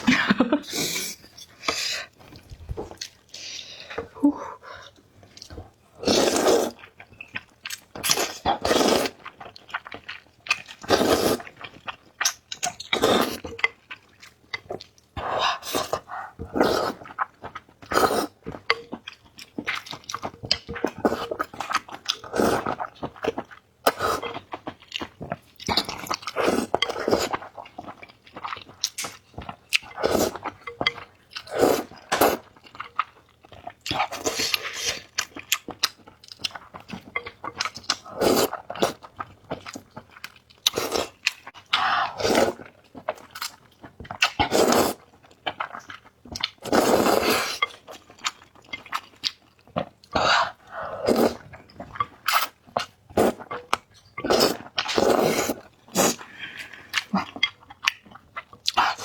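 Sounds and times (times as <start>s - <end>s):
person slurping and chewing noodles: 0.7s - 59.0s.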